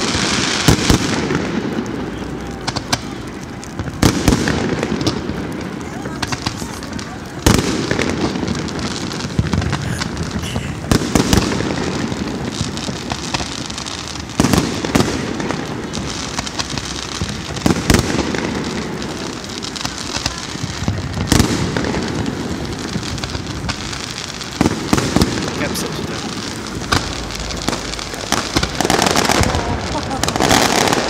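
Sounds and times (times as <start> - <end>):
fireworks crackling hiss: 0.0 - 31.0
fireworks shells bursting: 0.0 - 31.0.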